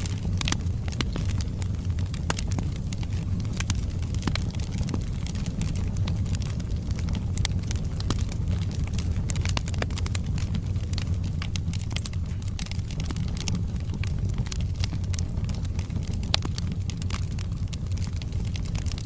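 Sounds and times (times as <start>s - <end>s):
fire rumbling: 0.0s - 19.0s
logs crackling and popping: 0.0s - 19.0s.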